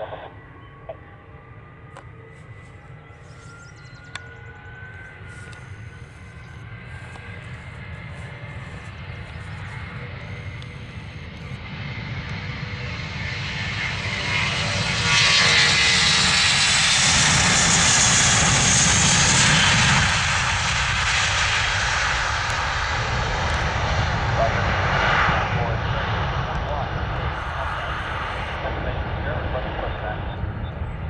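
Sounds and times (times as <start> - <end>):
airliner engines roaring past: 0.0 - 31.0.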